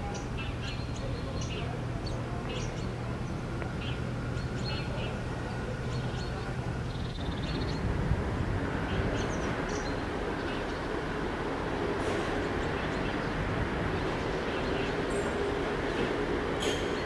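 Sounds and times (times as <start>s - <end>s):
small birds chirping: 0.0s - 8.0s, 8.6s - 17.0s
low outdoor hum: 0.0s - 17.0s.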